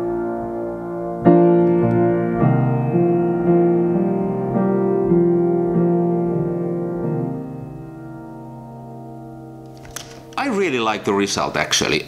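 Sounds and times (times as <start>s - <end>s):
slow piano music: 0.0s - 11.4s.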